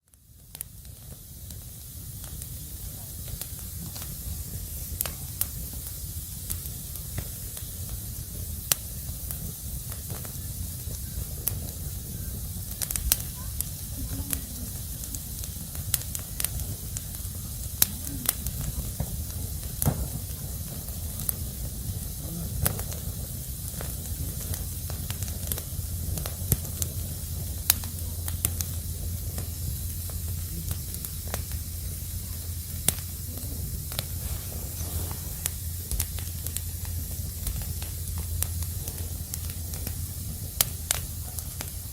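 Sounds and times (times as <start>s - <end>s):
crackling wood fire: 0.0s - 41.9s.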